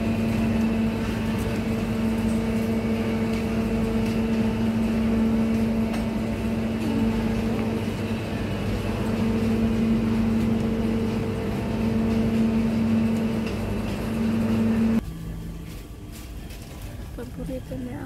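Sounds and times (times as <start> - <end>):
refrigerated display case humming: 0.0 - 18.0.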